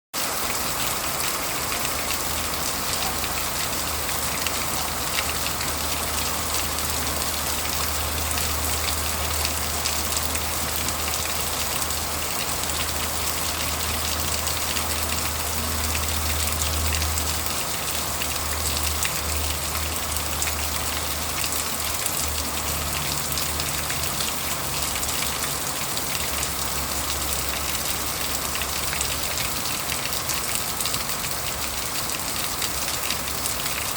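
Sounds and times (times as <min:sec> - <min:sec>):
heavy rain falling: 0:00.2 - 0:33.9.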